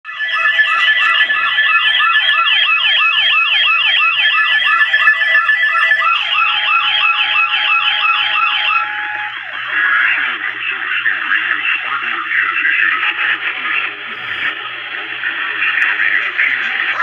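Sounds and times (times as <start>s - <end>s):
weather radio alert siren: 0.0s - 14.6s.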